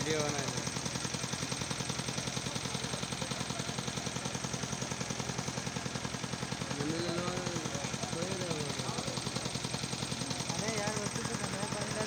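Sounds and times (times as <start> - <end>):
engine thudding rapidly: 0.0 - 12.0
crowd chatter: 1.9 - 12.0.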